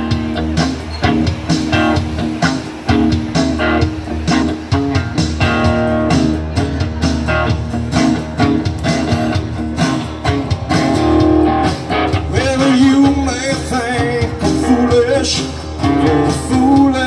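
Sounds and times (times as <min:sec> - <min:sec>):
acoustic guitar strumming: 0:00.0 - 0:17.0
electric guitar playing: 0:00.0 - 0:17.0.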